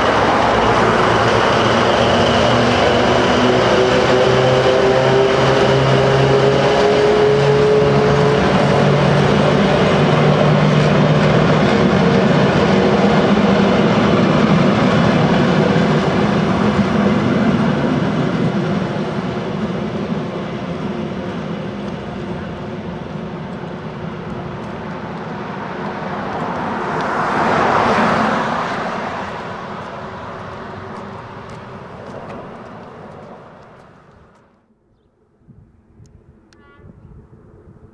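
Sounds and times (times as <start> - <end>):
wheels rumbling on rail: 0.0 - 34.7.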